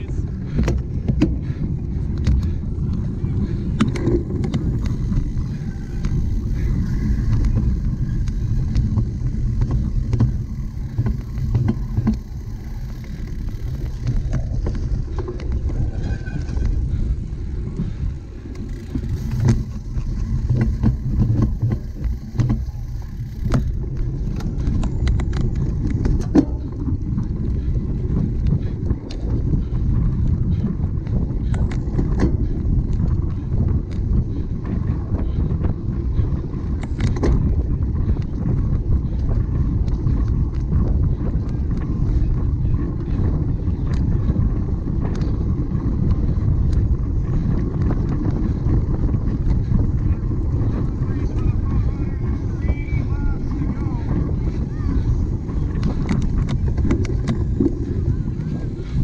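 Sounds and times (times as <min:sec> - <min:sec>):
bicycle rumbling over rough ground: 0:00.0 - 0:59.0
bike rattles and knocks: 0:00.0 - 0:59.0.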